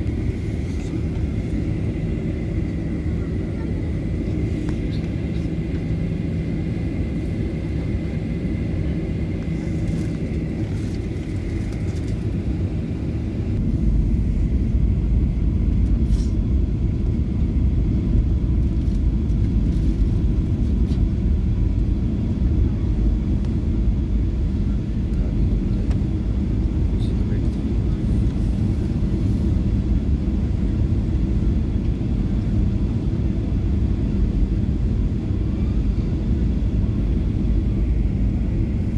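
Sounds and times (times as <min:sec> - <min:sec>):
airplane engine rumble: 0:00.0 - 0:38.9
steady hum: 0:00.0 - 0:38.9.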